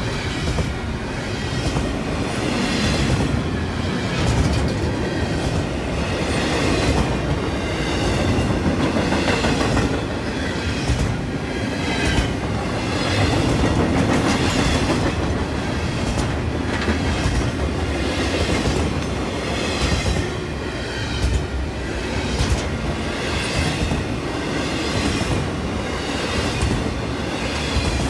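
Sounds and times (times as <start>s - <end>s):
freight train rumbling past: 0.0s - 28.0s
train wheels clicking over rail joints: 0.0s - 28.0s.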